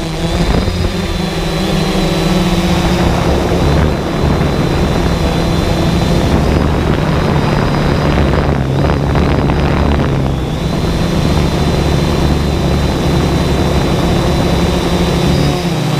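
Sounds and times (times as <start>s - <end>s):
drone motors humming: 0.0s - 15.9s
high whine: 0.0s - 15.9s.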